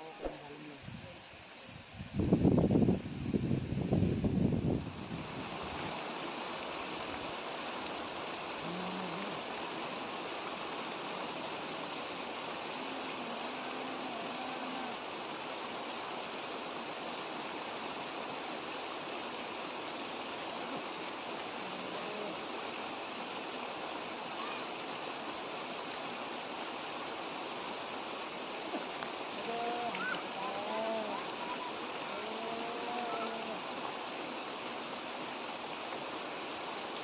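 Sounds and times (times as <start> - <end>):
stream rushing over cascade: 0.0 - 37.0.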